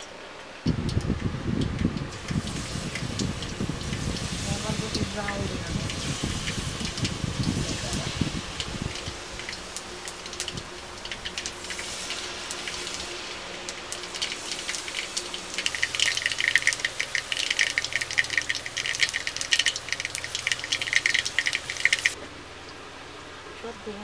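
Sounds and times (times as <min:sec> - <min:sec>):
oil crackling and sizzling: 0:00.0 - 0:22.8.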